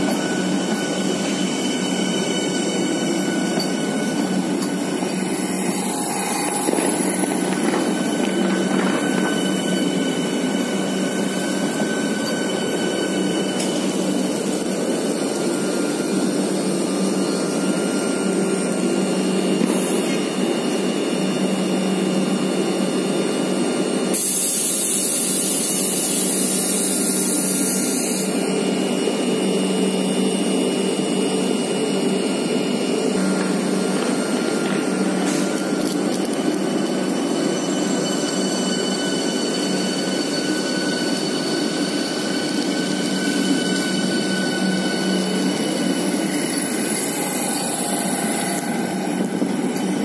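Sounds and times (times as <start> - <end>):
train equipment humming and whirring: 0.0 - 50.0.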